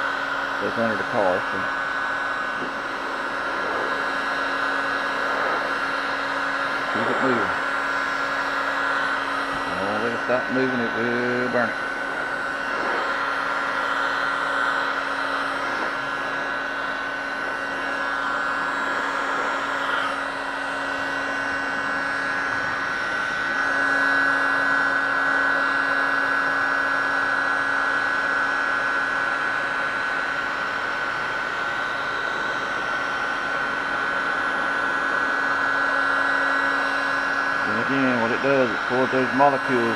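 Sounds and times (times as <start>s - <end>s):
heat gun fan whining: 0.0s - 39.9s.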